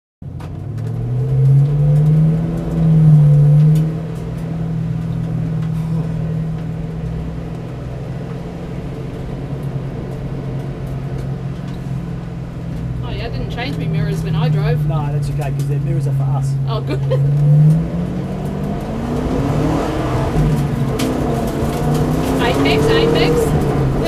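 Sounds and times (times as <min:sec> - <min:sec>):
car engine revving: 0:00.2 - 0:24.0.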